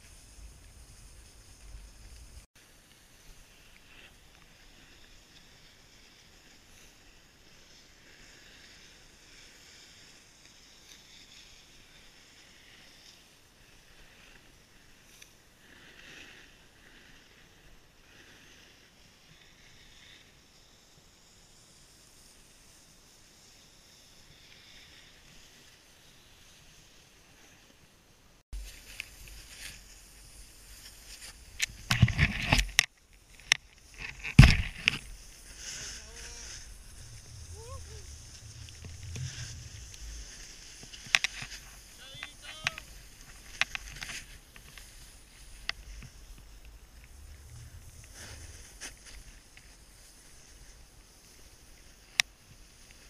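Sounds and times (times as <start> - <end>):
snowboards sliding on snow: 0.0 - 53.0
soft rushing hiss: 0.0 - 53.0.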